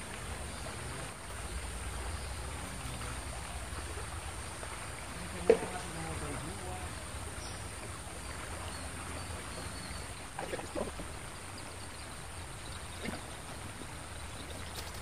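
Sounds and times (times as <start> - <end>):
river background noise: 0.0 - 15.0.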